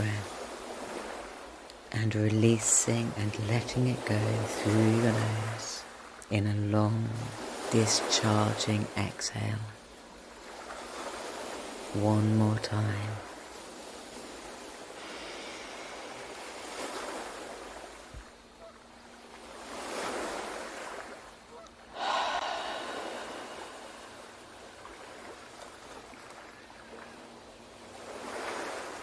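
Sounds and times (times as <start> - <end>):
ocean waves on shore: 0.0 - 29.0.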